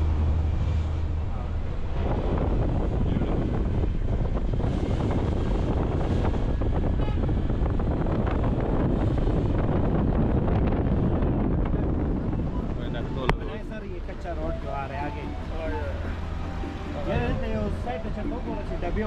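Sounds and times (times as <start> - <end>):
vehicle road and engine noise: 0.0 - 19.0
wind rushing over microphone: 0.0 - 19.0.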